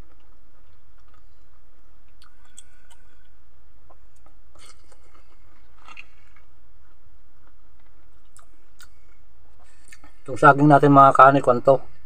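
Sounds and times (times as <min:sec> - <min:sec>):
person chewing with wet smacks: 0:00.0 - 0:10.3
low hum: 0:00.0 - 0:12.0.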